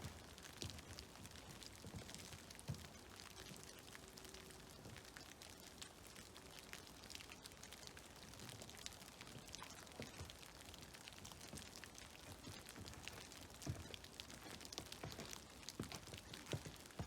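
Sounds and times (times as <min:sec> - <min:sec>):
melting snow dripping: 0:00.0 - 0:17.0.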